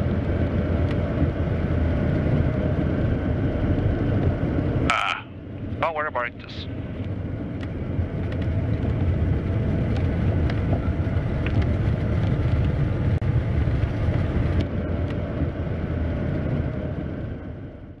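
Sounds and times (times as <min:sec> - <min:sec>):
piston aircraft engines rumbling: 0:00.0 - 0:18.0.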